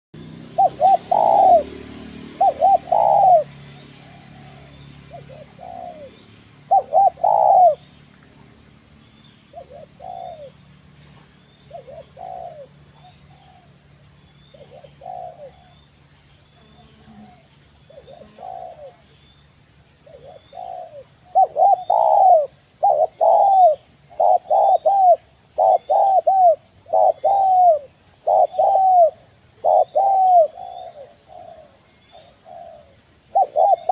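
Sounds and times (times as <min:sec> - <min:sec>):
dove cooing: 0:00.4 - 0:07.9, 0:09.5 - 0:10.6, 0:11.7 - 0:13.8, 0:14.5 - 0:15.8, 0:16.8 - 0:19.1, 0:20.0 - 0:33.9.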